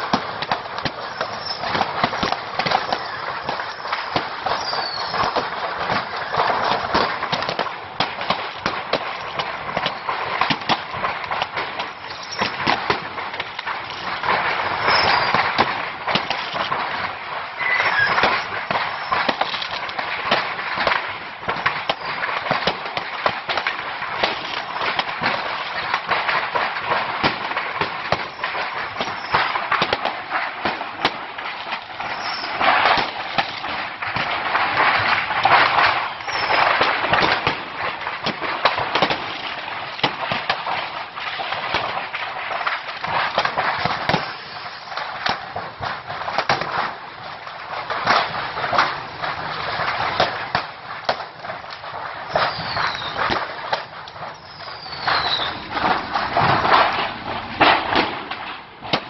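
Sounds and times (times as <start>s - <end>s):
firecracker crackle and pops: 0.0s - 59.0s.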